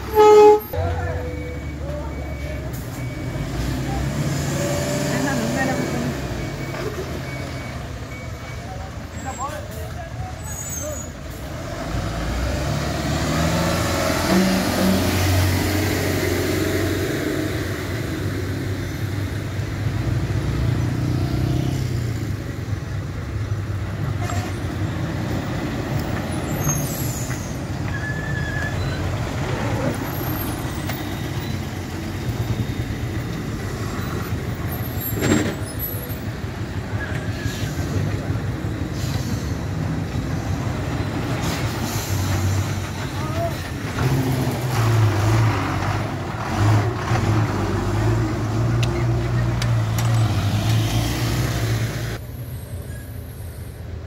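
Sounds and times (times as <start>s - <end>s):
diesel engines running under load: 0.0s - 54.0s.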